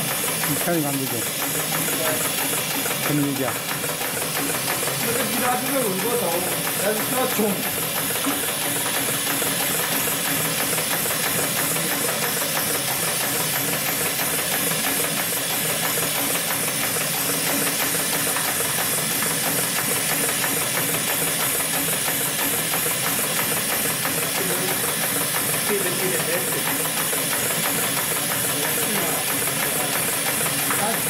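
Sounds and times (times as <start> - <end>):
sewing machine stitching: 0.0 - 31.0.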